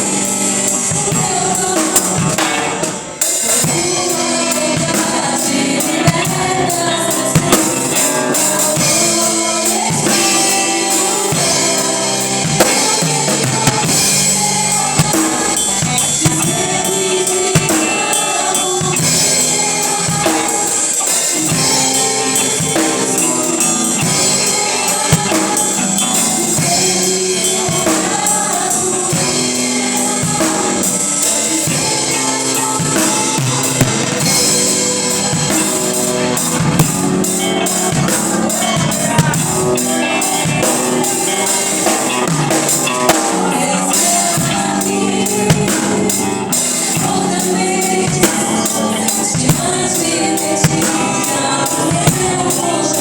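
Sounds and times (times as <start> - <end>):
band music: 0.0 - 53.0
drum kit beat: 0.0 - 53.0.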